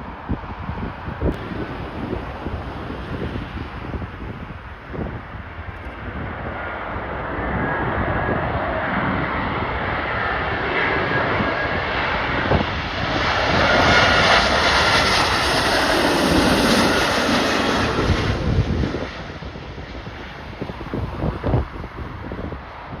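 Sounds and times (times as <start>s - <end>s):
jet airliner engines: 0.0s - 23.0s
wind buffeting microphone: 0.0s - 23.0s.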